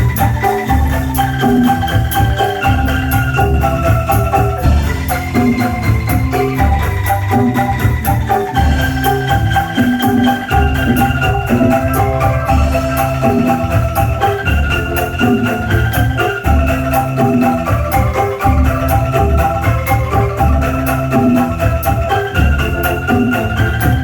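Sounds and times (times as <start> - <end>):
bamboo ensemble music: 0.0 - 24.0
deep pulsing bass beat: 0.0 - 24.0
high ticking rhythm: 0.0 - 24.0.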